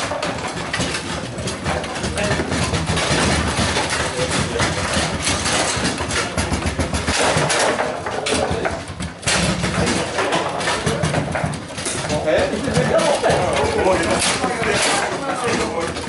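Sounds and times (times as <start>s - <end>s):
clatter of play at other tables: 0.0s - 16.0s
rods clacking: 0.0s - 16.0s.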